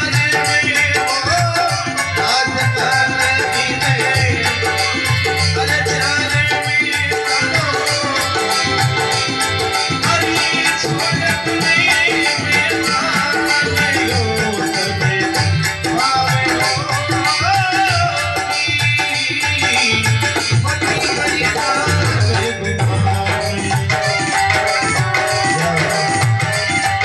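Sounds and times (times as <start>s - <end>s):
devotional music with percussion beat: 0.0s - 27.0s.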